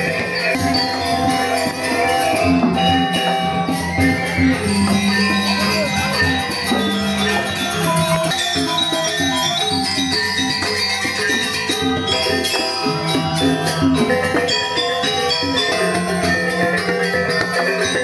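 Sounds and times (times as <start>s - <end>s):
gamelan music: 0.0s - 18.0s.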